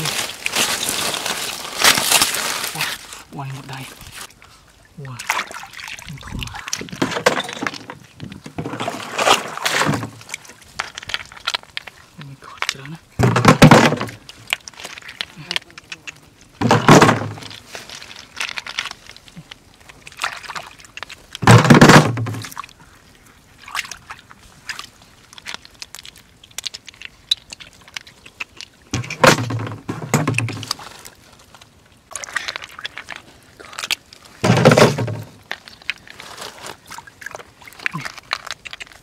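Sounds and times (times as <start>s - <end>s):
hands sloshing through water: 0.0s - 12.9s, 14.0s - 21.4s, 22.1s - 29.5s, 30.3s - 39.0s.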